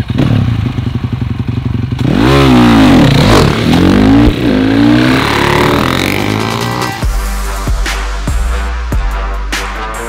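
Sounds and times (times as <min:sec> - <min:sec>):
motorcycle engine idling and revving: 0:00.0 - 0:09.1.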